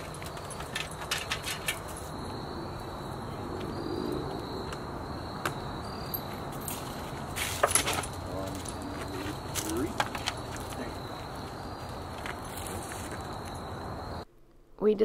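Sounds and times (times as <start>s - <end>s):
crickets chirring: 0.0s - 14.3s
low outdoor ambience: 0.0s - 15.0s.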